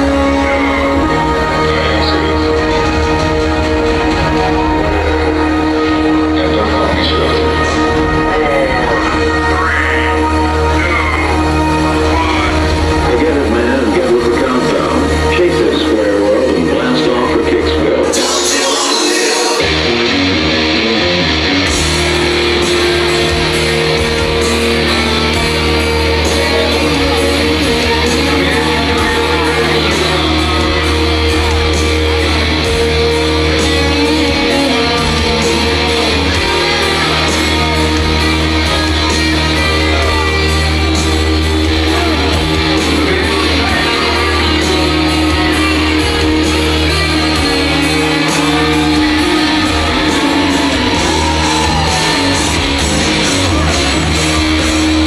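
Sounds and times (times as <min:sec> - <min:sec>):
electric guitar: 0:00.0 - 0:55.0
live rock band playing: 0:00.0 - 0:55.0
person singing: 0:00.0 - 0:55.0.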